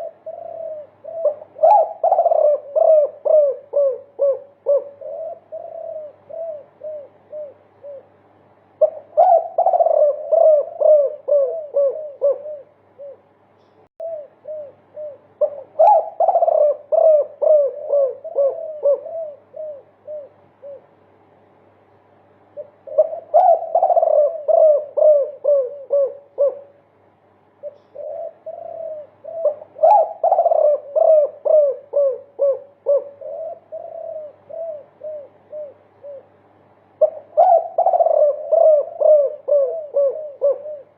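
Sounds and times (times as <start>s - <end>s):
dove cooing: 0.0s - 21.1s, 22.5s - 27.0s, 27.6s - 40.9s.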